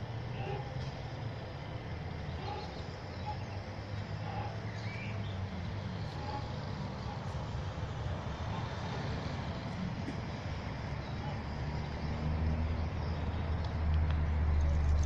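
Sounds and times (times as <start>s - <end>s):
steady low city rumble: 0.0s - 15.0s.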